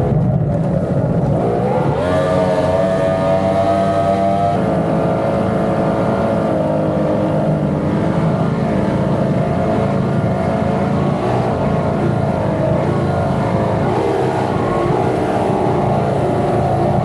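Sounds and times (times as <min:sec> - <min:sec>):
outboard boat engines running: 0:00.0 - 0:17.0.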